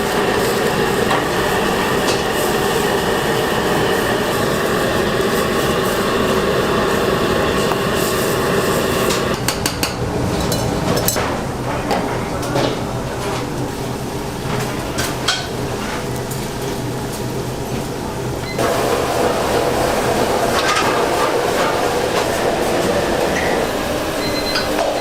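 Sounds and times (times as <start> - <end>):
loud steady roar: 0.0 - 15.7, 18.0 - 25.0.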